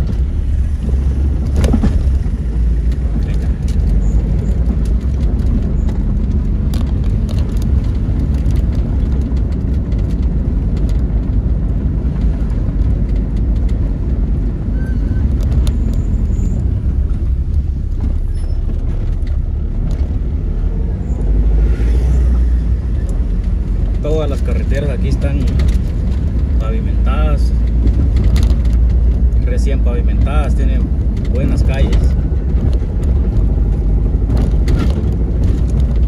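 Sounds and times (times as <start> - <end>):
vehicle driving on concrete road: 0.0 - 36.0.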